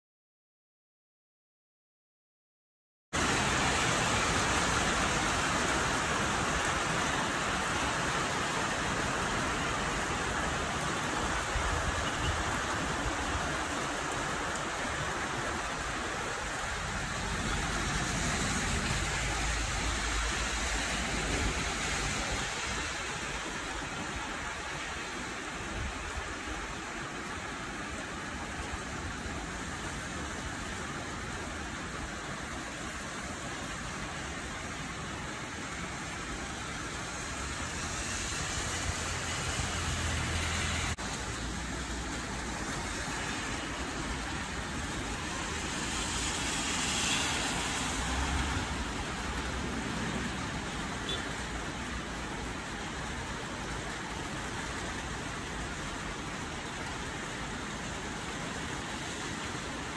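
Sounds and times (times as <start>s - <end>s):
heavy rain hissing: 3.2s - 59.9s.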